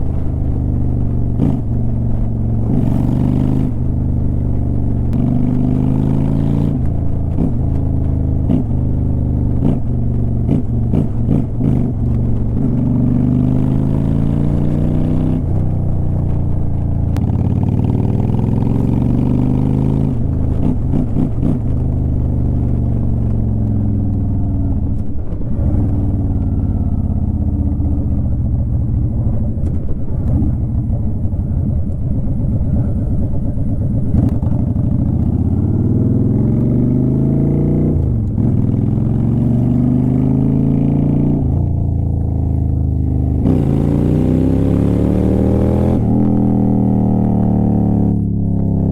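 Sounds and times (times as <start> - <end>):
motorcycle exhaust accelerating: 0.0 - 48.9.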